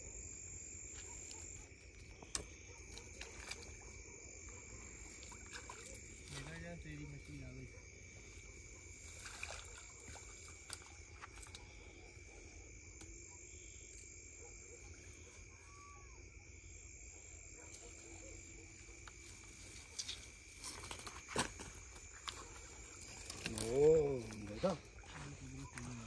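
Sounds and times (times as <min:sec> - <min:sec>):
crickets and frogs chorus: 0:00.0 - 0:26.0.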